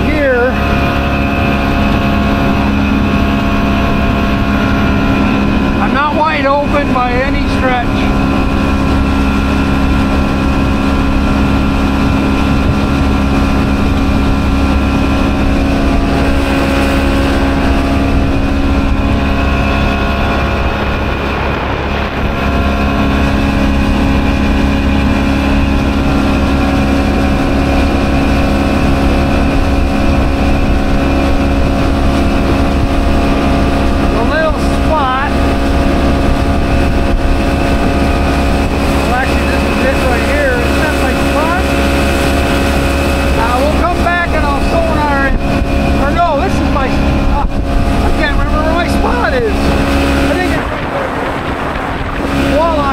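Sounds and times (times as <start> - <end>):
outboard motor running: 0.0 - 52.9.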